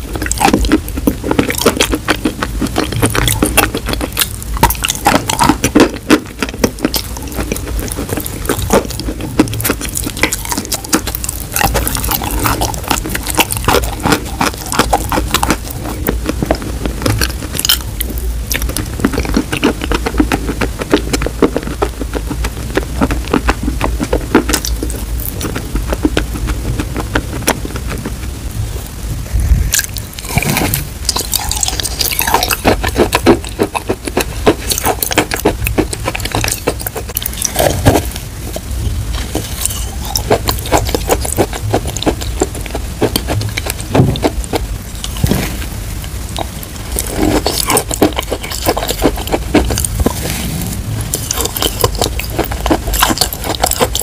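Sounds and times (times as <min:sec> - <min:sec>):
wet crunchy chewing: 0:00.0 - 0:28.4, 0:29.4 - 0:54.0.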